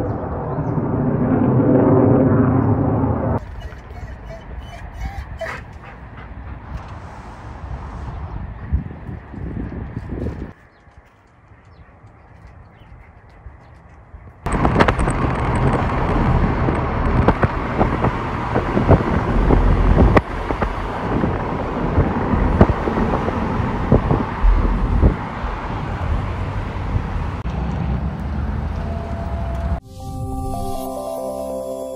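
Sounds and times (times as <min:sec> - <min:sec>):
wind rumbling on microphone: 0:00.0 - 0:29.8
road traffic: 0:00.0 - 0:30.0.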